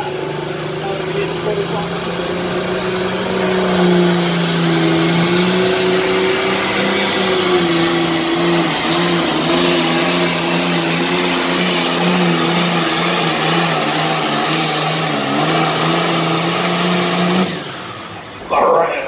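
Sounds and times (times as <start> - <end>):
tractor diesel engine at full throttle: 0.0 - 19.0.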